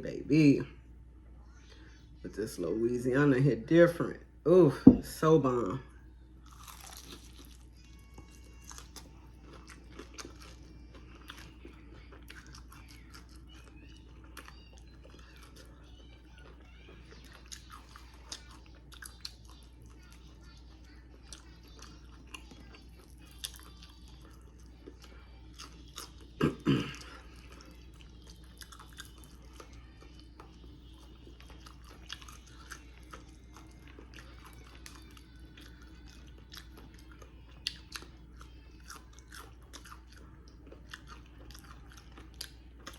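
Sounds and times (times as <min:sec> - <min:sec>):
chewing crispy fried chicken: 0:06.3 - 0:42.9.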